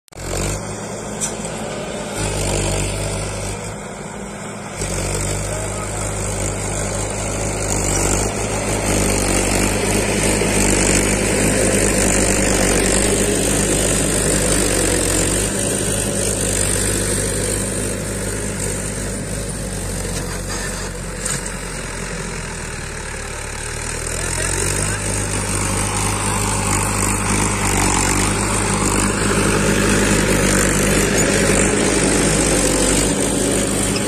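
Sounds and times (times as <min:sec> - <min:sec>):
tractor diesel engine under load: 0:00.1 - 0:34.0.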